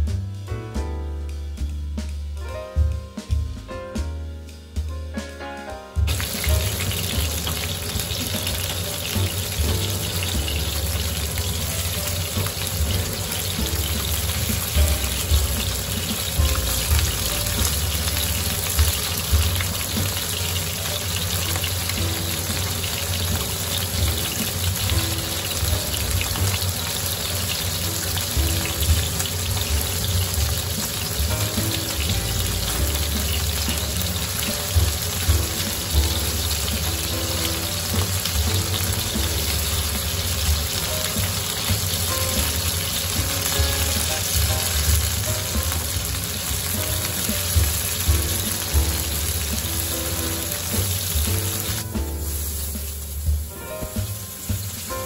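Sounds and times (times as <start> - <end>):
fish frying in hot oil: 6.0 - 55.0.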